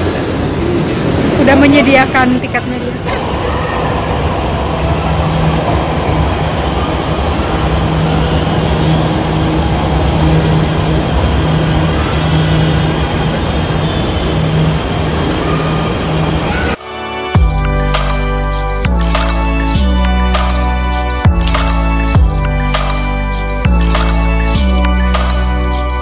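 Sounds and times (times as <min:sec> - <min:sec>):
train low hum: 0:00.0 - 0:26.0.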